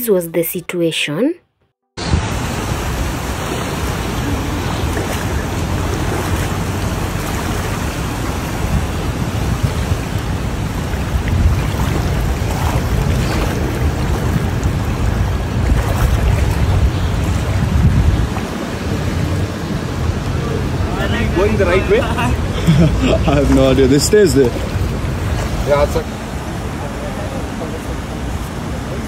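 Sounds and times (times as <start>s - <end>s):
floodwater rushing: 2.0s - 29.0s
wind buffeting microphone: 2.0s - 29.0s.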